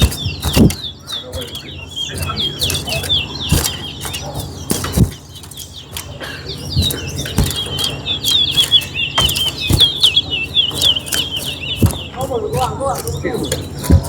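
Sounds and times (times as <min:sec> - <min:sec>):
finch twittering chirps: 0:00.0 - 0:14.0
sharp knocks: 0:00.0 - 0:14.0.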